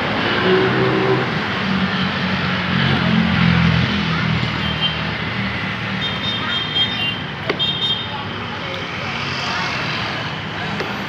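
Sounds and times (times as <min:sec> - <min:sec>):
passing vehicles: 0:00.0 - 0:11.0.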